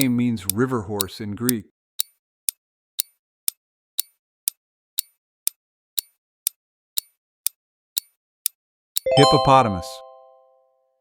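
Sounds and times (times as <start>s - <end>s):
clock ticking: 0.0s - 9.6s.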